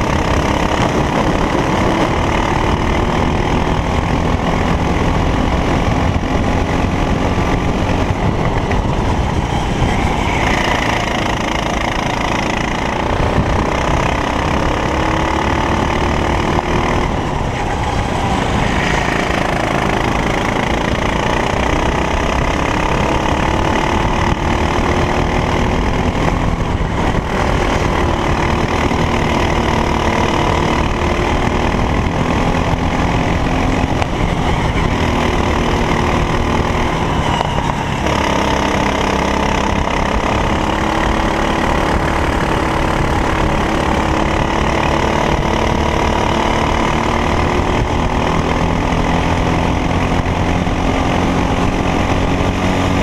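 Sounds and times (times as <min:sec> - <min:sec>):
racing kart engine revving: 0:00.0 - 0:53.0.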